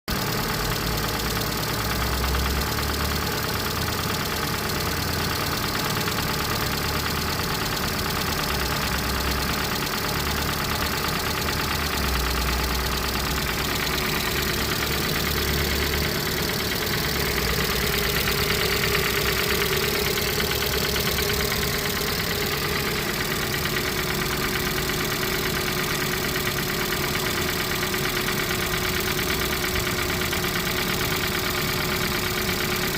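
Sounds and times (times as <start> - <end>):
engine idling with a knock: 0.2 - 32.9.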